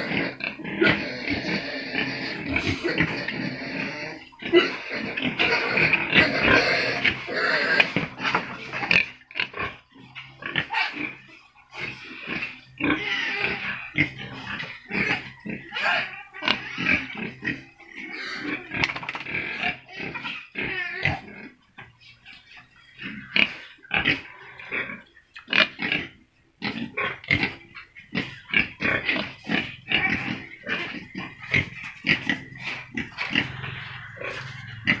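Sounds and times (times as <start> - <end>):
pigs grunting: 0.0 - 35.0.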